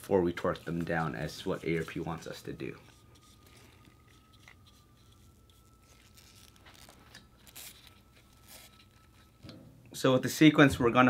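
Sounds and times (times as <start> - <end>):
faint steady high tone: 0.0 - 11.0.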